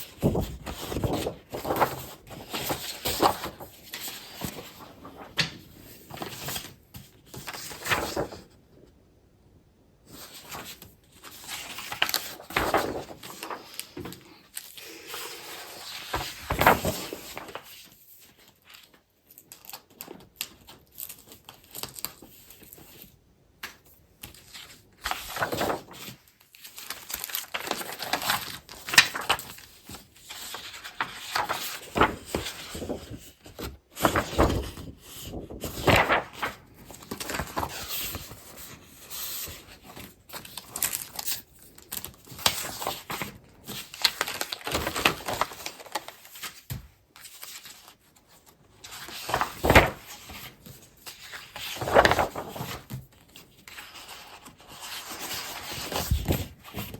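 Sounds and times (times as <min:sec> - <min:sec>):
paper sheets rustling: 0:00.0 - 0:08.6, 0:10.1 - 0:56.9.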